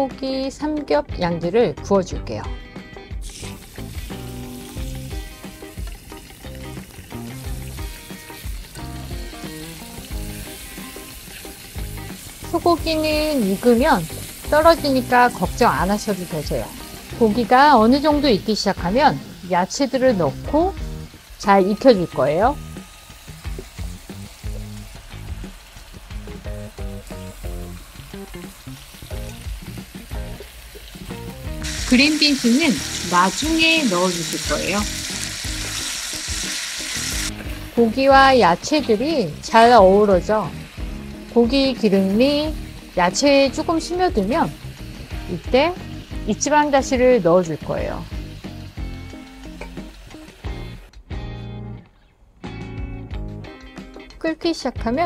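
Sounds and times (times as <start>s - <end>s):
light plucked background music: 0.0s - 55.0s
meat sizzling in hot oil: 3.0s - 50.9s.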